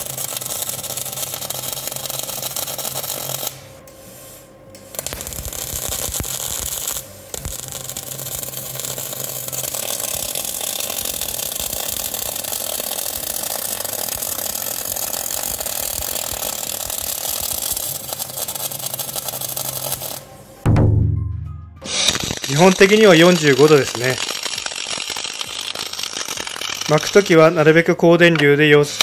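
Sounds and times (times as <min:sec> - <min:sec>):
welding arc crackling hiss: 0:00.0 - 0:20.3, 0:21.8 - 0:29.0.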